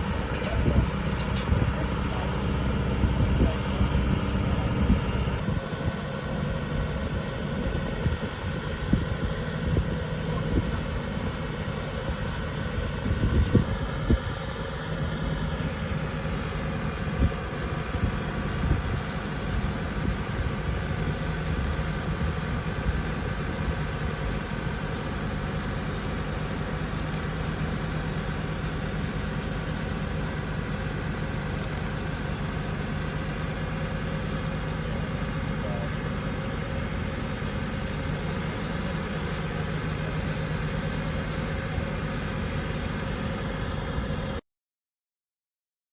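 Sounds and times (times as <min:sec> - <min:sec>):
heavy vehicle engine idling: 0:00.0 - 0:44.4.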